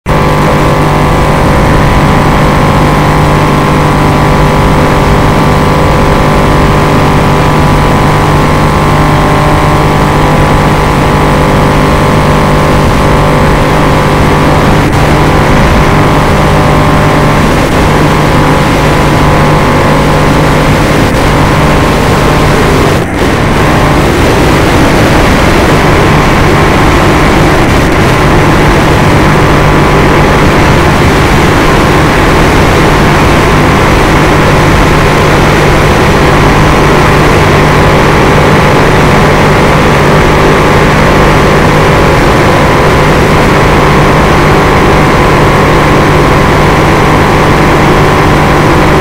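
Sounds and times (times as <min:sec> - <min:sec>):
electric motor and propeller drone: 0:00.1 - 0:49.0
rushing air: 0:02.8 - 0:44.0.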